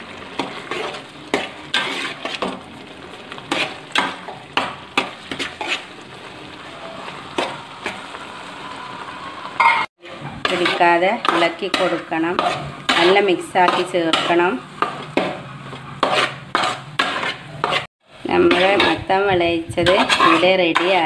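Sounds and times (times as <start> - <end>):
food sizzling: 0.0 - 21.0
metal spoon scraping a pot: 0.3 - 2.7, 3.3 - 6.5, 9.6 - 21.0.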